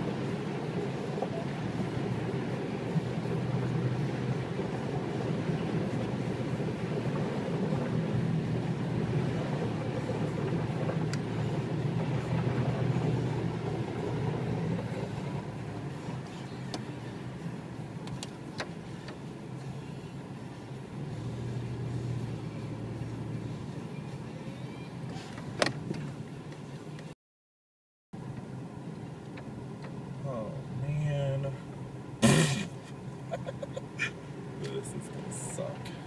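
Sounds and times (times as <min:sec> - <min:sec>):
road and engine noise: 0:00.0 - 0:27.2, 0:28.2 - 0:36.0.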